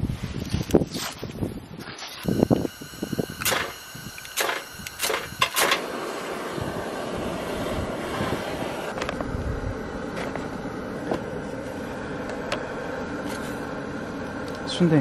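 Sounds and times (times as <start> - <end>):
gas burner hissing: 2.2 - 15.0.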